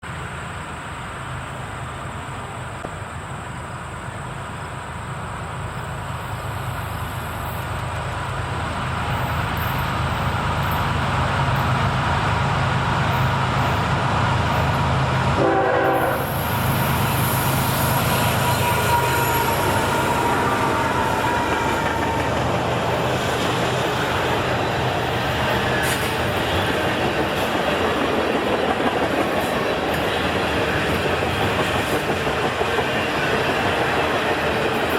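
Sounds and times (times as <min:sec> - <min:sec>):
diesel locomotive engine hum: 0:00.0 - 0:34.9
train wheels rumbling on rails: 0:00.0 - 0:34.9.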